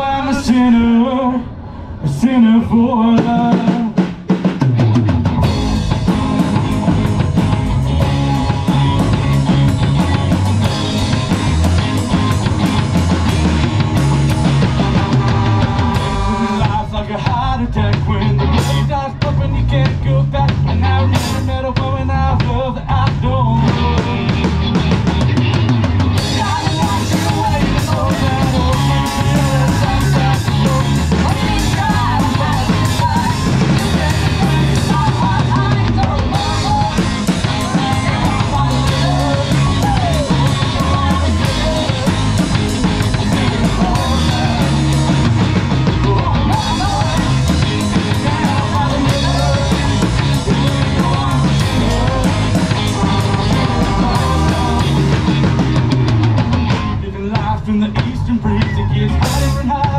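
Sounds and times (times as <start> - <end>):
guitars and bass: 0.0 - 59.9
drum kit: 3.0 - 59.9.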